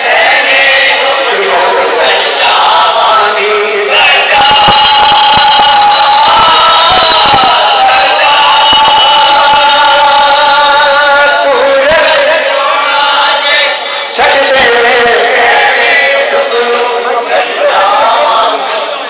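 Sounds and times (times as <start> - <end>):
men chanting in held notes: 0.0 - 19.0.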